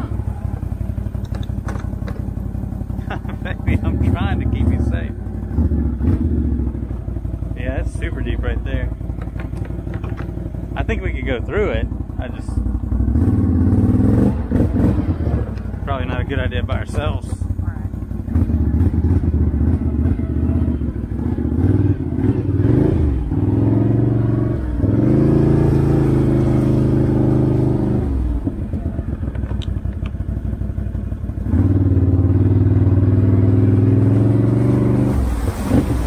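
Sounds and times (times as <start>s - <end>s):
atv engine revving: 0.0s - 36.0s.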